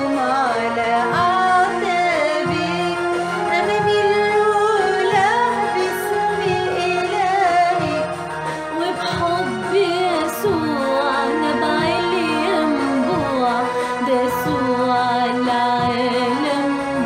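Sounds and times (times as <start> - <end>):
sustained instrumental accompaniment: 0.0 - 17.0
women singing a hymn: 0.0 - 17.0.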